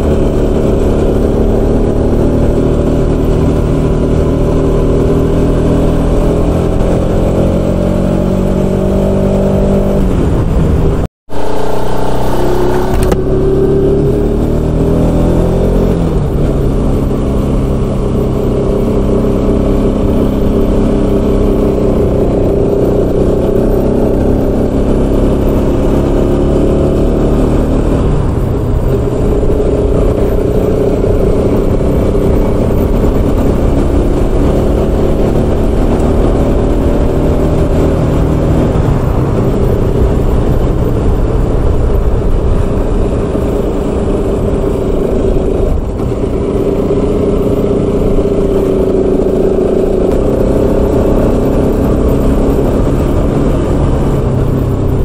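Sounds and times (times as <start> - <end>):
motorcycle engine cruising: 0.0 - 55.0
wind rushing on microphone: 0.0 - 55.0.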